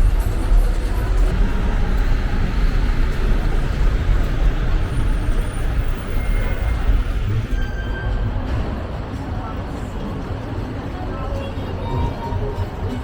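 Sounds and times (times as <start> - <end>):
vehicle engine and road noise: 0.0 - 11.2.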